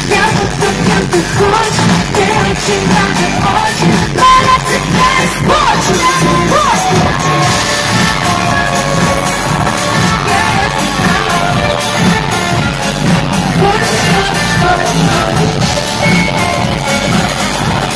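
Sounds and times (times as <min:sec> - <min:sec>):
woman singing over a beat: 0:00.0 - 0:16.6.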